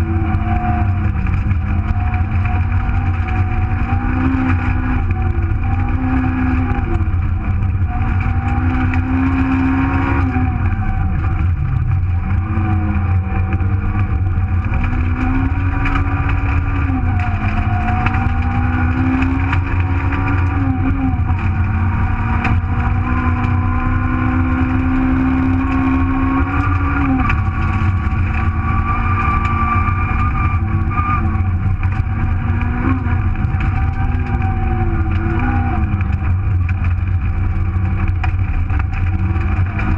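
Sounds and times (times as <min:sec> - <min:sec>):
rally car engine revving: 0:00.0 - 0:39.9
road and tyre rumble: 0:00.0 - 0:39.9.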